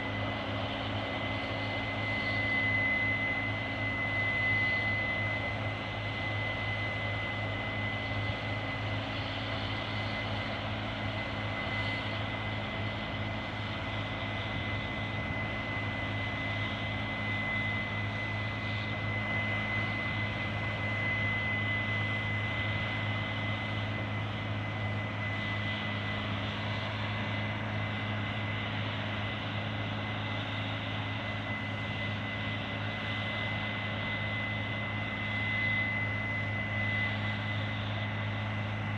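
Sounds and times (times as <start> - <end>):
high-pitched machinery whine: 0.0 - 38.9.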